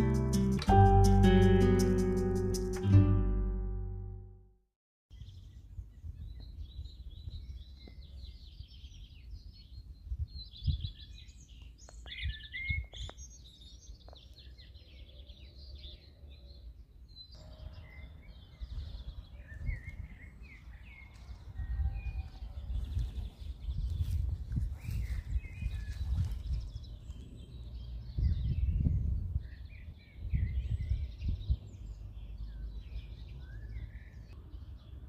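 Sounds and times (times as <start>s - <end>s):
songbirds singing: 5.1s - 35.0s.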